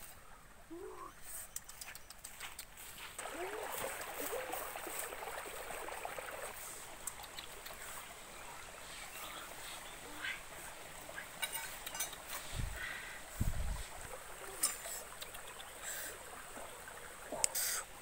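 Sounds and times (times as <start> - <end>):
stream babbling and gurgling: 0.0 - 18.0.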